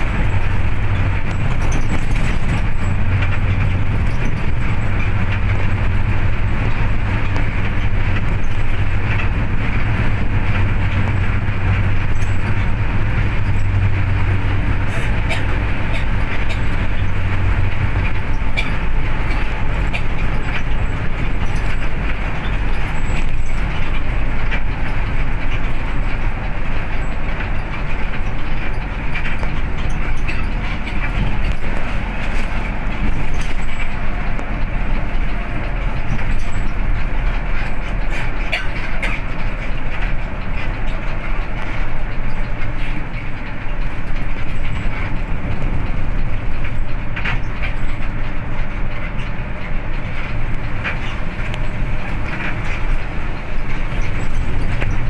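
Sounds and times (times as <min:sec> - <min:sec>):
bus engine drone: 0:00.0 - 0:55.0
light clicks and rattles: 0:00.0 - 0:55.0
road noise: 0:00.0 - 0:55.0.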